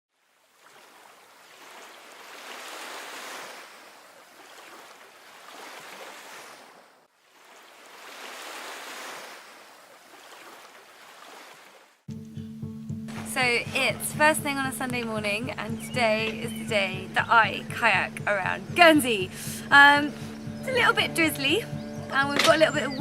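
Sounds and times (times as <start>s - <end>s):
sea waves breaking on shore: 0.1s - 12.1s, 13.1s - 23.0s.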